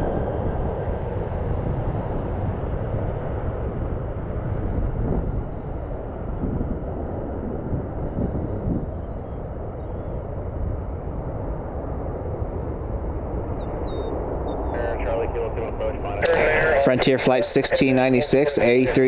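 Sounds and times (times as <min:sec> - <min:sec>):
jet airliner rumble: 0:00.0 - 0:19.0
wind buffeting microphone: 0:00.0 - 0:19.0.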